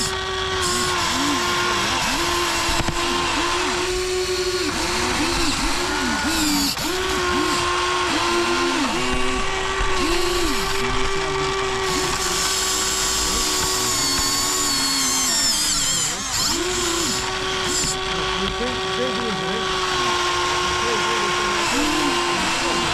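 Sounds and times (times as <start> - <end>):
small electric motors whining: 0.0 - 22.9.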